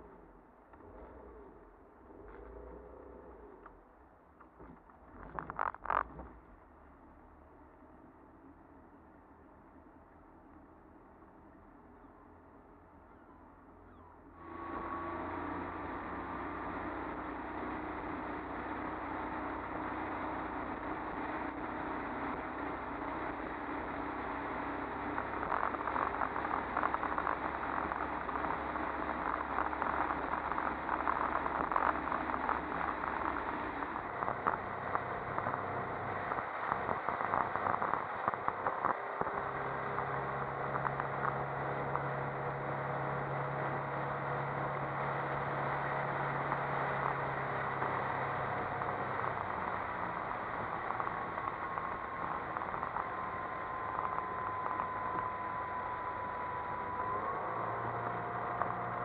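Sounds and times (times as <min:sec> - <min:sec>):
motorboat engine running: 0:11.3 - 0:59.0.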